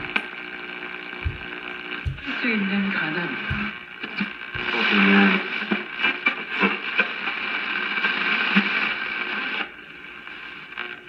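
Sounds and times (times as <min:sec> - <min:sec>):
radio static hissing and crackling: 0:00.0 - 0:11.0.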